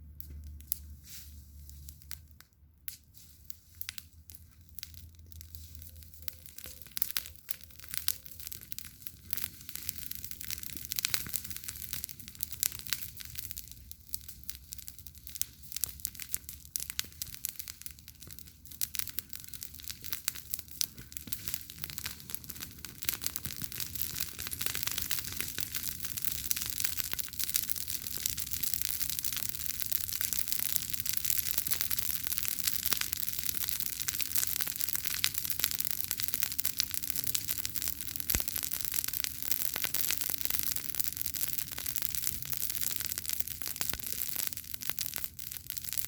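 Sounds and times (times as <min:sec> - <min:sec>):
campfire crackling and popping: 0:00.2 - 0:46.0.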